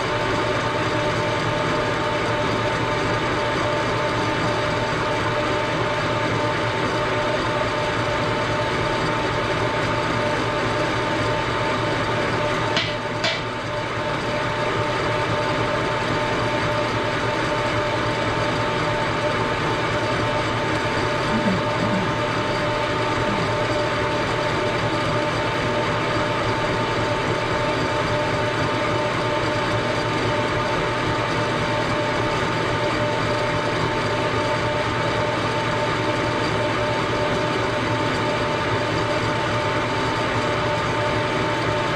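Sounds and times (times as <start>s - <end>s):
machine tool whine: 0.0s - 41.9s.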